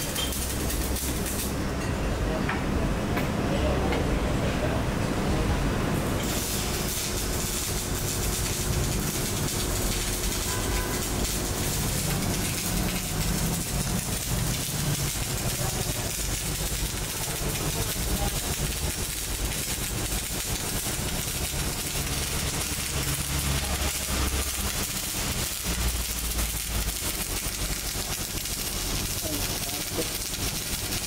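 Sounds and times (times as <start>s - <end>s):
welding arc crackling: 0.0s - 1.6s, 6.2s - 31.0s.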